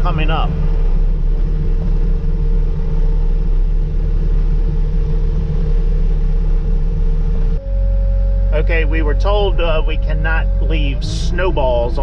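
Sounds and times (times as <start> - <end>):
diesel engine running: 0.0 - 12.0
steady whine: 0.0 - 12.0.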